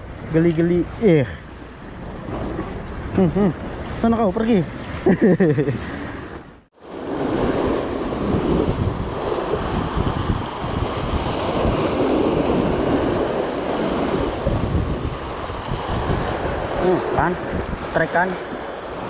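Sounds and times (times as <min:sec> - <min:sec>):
waves splashing against seawall: 0:00.0 - 0:19.0
wind buffeting microphone: 0:01.4 - 0:19.0.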